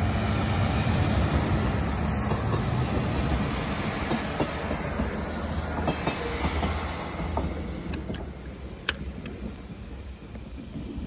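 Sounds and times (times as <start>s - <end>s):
diesel train engine rumble: 0.0s - 11.0s
wheels clicking over rail joints: 1.2s - 11.0s.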